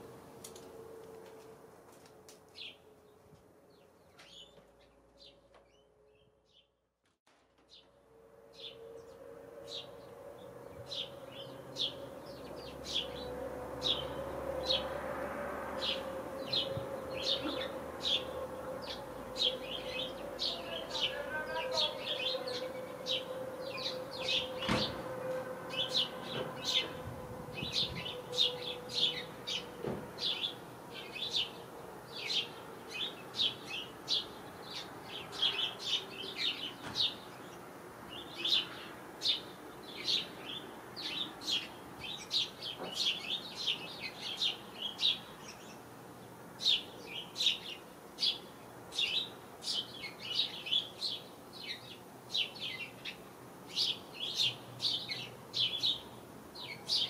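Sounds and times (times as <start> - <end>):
sparrows chirping: 2.5 - 6.8, 8.5 - 57.0.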